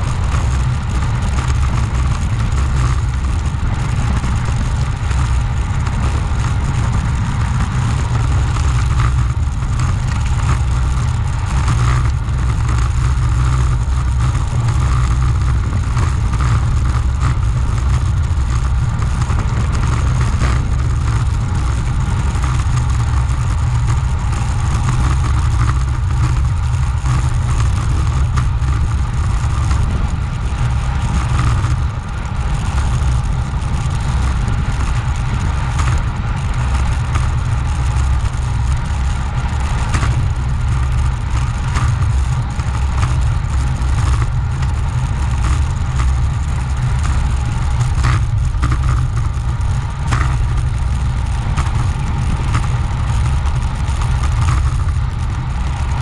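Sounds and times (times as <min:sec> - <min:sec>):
steady higher hum: 0:00.0 - 0:56.0
wind rumbling over microphone: 0:00.0 - 0:56.0.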